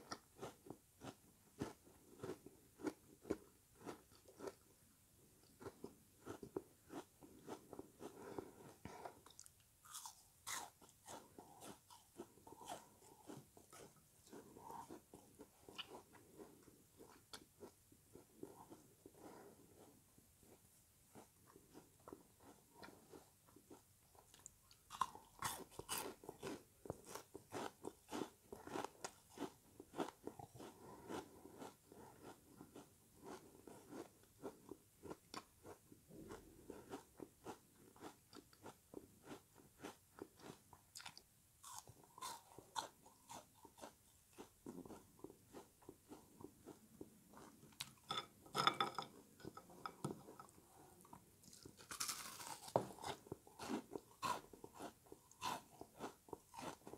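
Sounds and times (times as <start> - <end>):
person chewing with wet crunches: 0.0 - 56.9.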